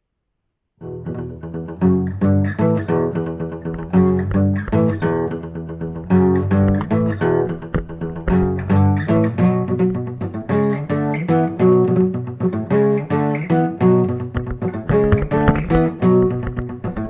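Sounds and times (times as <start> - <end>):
plucked acoustic guitar: 0.8 - 17.0.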